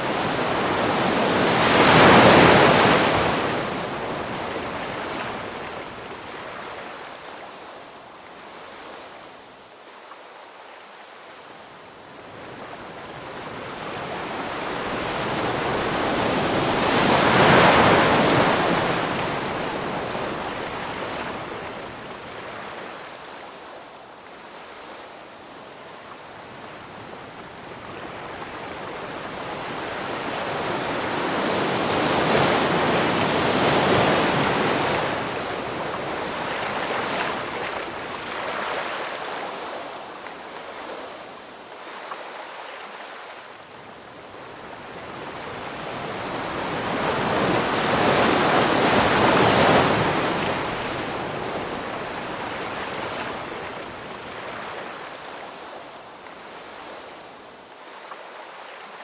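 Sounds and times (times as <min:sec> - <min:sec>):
ocean waves washing in and out: 0:00.0 - 0:59.0.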